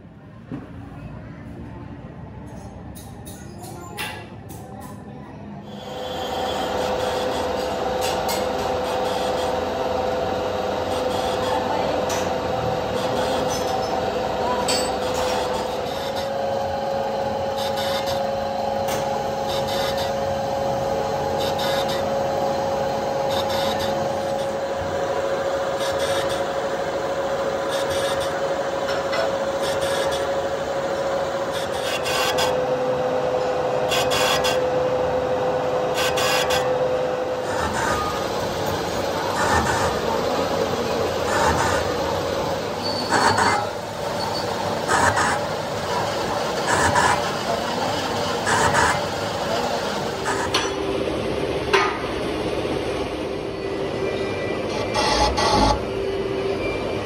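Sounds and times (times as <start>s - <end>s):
machine running steady tone: 5.6s - 57.0s.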